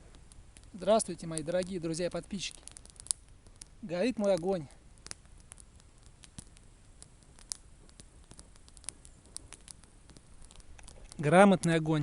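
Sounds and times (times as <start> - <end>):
campfire crackling: 0.0 - 12.0
fire popping: 0.0 - 12.0.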